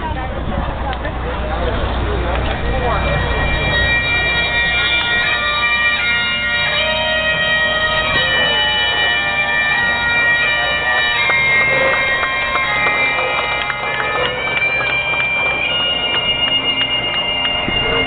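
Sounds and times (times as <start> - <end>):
bagpipe music over loudspeakers: 2.6 - 18.0.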